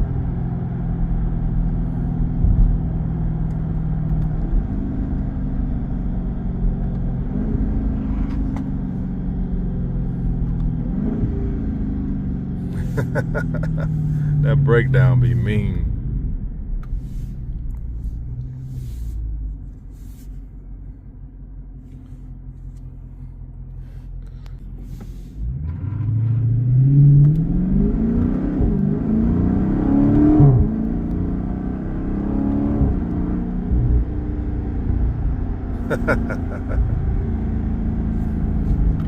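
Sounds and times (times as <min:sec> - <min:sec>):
car engine revving: 0:00.0 - 0:19.2, 0:23.8 - 0:39.0.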